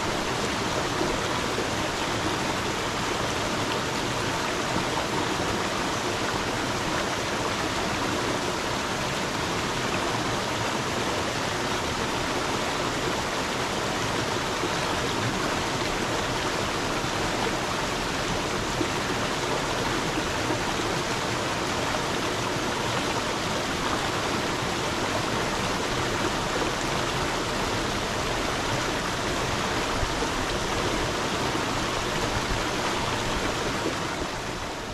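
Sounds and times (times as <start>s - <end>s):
water stream flowing: 0.0s - 34.9s.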